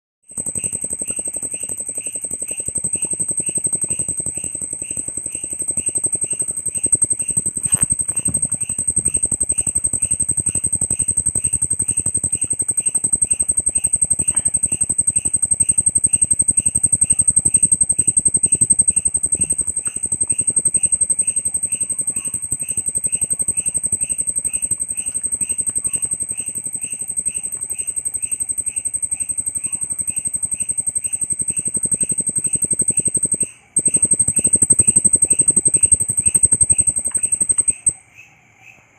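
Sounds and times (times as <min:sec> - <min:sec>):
grasshopper stridulating: 0:00.3 - 0:38.0.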